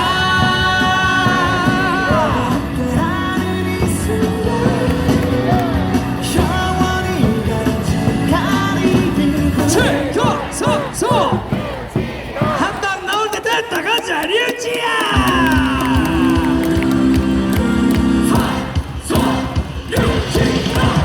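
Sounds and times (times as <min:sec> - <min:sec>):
cheering music over speakers: 0:00.0 - 0:08.6, 0:12.4 - 0:21.0
crowd singing along: 0:00.0 - 0:21.0
crowd yelling: 0:00.0 - 0:21.0.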